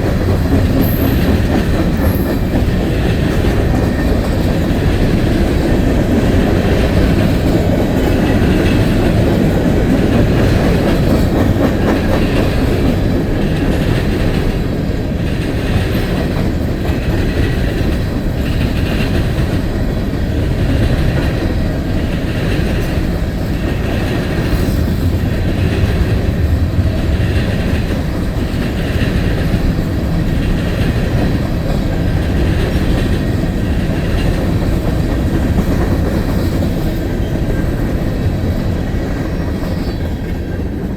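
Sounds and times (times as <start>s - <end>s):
rumble of train wheels on rails: 0.0s - 40.9s
train clickety-clack: 0.0s - 40.9s.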